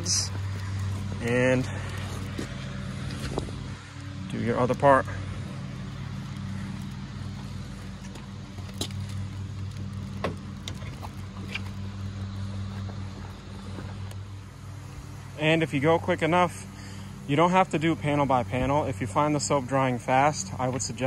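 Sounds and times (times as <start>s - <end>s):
low motor hum: 0.0s - 21.0s.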